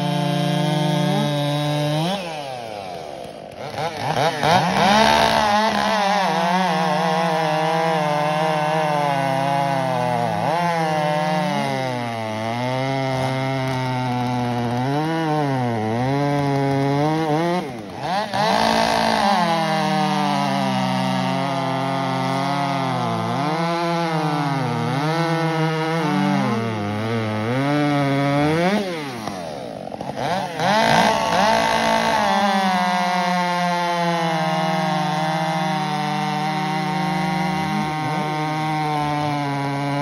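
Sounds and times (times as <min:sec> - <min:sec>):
chainsaws cutting log: 0:00.0 - 0:40.0.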